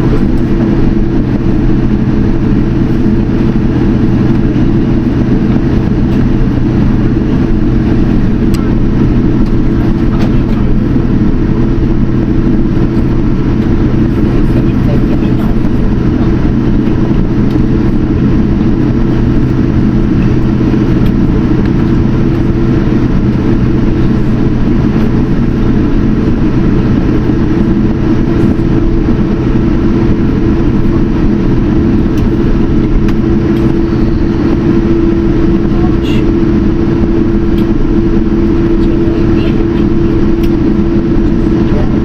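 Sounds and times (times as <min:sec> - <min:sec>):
constant low hum: 0:00.0 - 0:42.0
jet engine rumble in cabin: 0:00.0 - 0:42.0.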